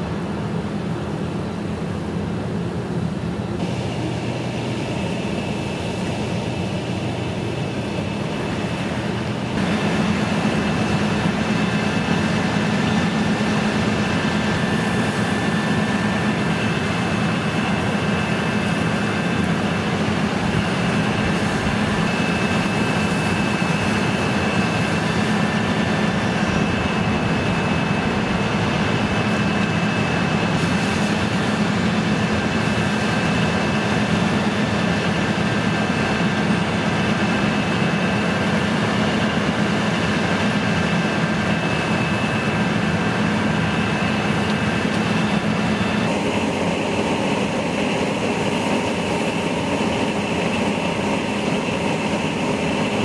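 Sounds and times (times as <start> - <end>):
fire engine engine droning: 0.0 - 53.0.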